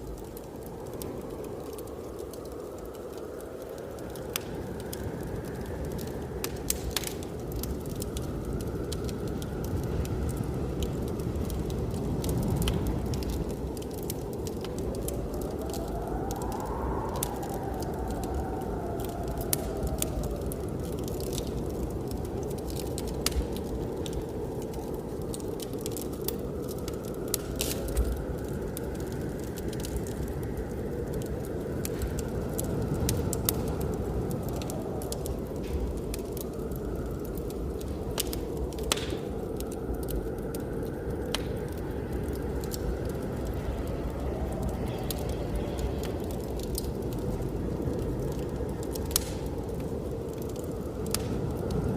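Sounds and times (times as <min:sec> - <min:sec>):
blizzard wind rumbling and whistling: 0:00.0 - 0:51.9
wood fire crackling: 0:00.0 - 0:51.9.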